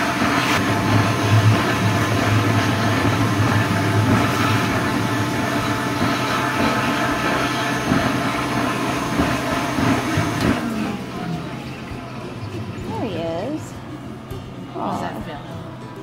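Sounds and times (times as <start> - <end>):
stuffing machine blower rushing: 0.0 - 13.1.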